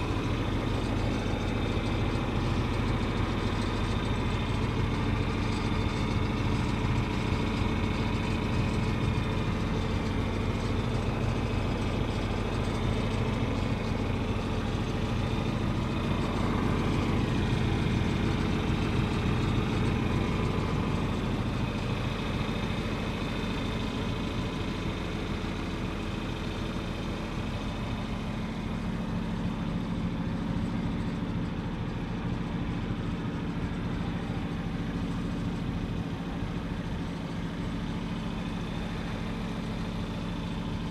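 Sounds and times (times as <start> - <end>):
heavy engine running: 0.0 - 40.9.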